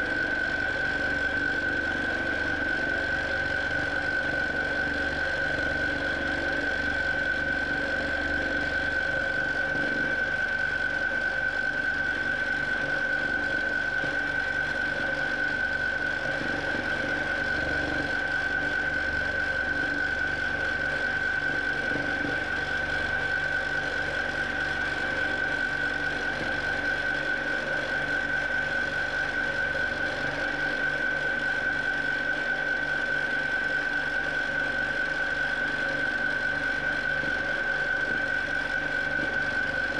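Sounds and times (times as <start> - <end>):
quilting machine humming and whining: 0.0 - 39.9.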